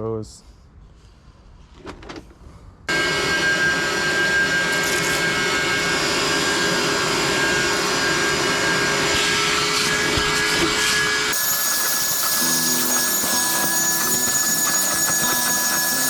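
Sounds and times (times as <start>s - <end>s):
cleaning machine motor whining: 2.9s - 16.0s.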